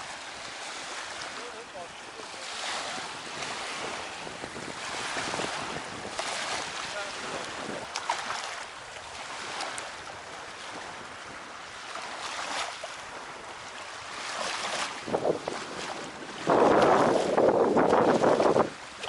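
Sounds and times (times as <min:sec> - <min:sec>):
surf washing onto beach: 0:00.0 - 0:19.0
wind on microphone: 0:00.0 - 0:19.0.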